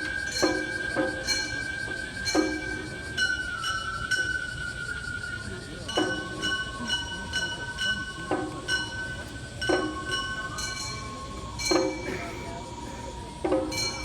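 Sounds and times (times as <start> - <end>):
hand gongs clanging: 0.0 - 4.4, 5.9 - 14.0
bamboo flute long high notes: 0.0 - 14.0.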